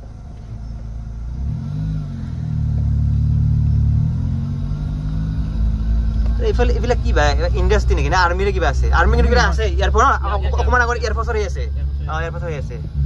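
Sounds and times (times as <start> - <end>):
car engine while driving: 0.0 - 13.0.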